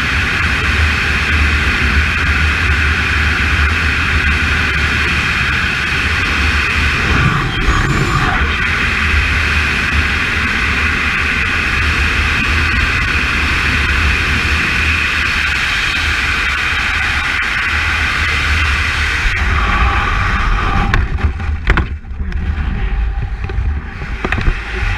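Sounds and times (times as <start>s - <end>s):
wind rumble on microphone: 0.0s - 24.9s.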